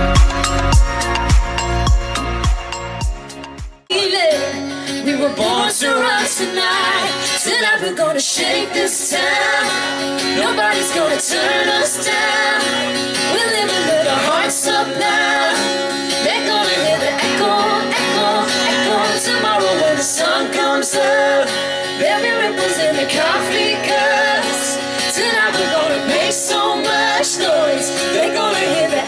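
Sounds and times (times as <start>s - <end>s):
lead vocals singing: 3.9s - 29.0s
strummed acoustic guitars: 4.1s - 29.0s.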